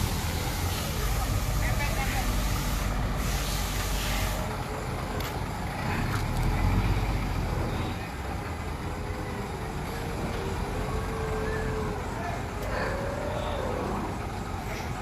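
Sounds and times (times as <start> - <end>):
heavy vehicle engine rumble: 0.0 - 15.0.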